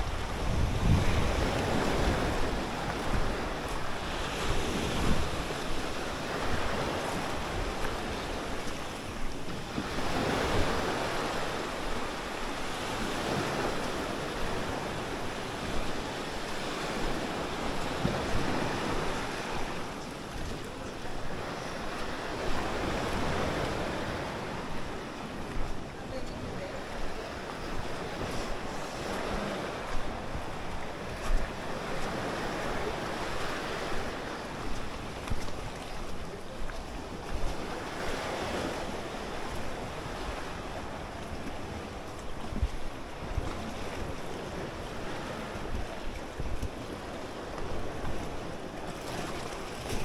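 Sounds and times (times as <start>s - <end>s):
small waves washing on shore: 0.0s - 50.0s
wind buffeting microphone: 0.0s - 50.0s.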